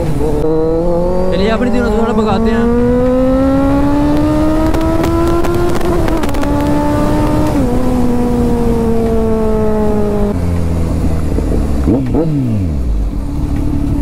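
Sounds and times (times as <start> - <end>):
gear upshift: 0.0 - 14.0
low wind rush: 0.0 - 14.0
motorcycle engine accelerating: 0.0 - 14.0.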